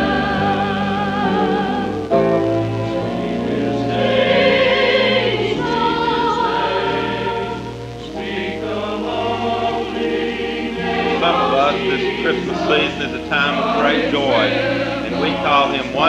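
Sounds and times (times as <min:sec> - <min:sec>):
bass accompaniment: 0:00.0 - 0:16.0
church choir singing: 0:00.0 - 0:16.0.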